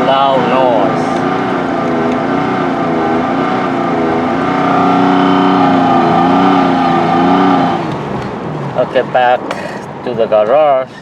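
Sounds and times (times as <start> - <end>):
truck engine droning under load: 0.0 - 11.0.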